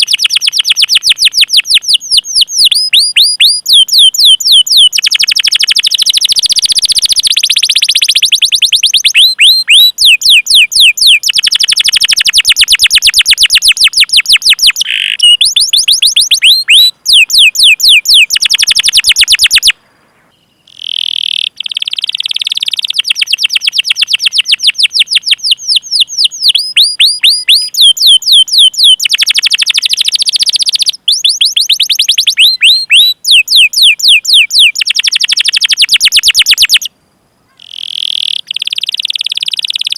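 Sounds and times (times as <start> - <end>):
canary singing rapid chirps: 0.0 - 19.7, 20.7 - 36.9, 37.6 - 39.9.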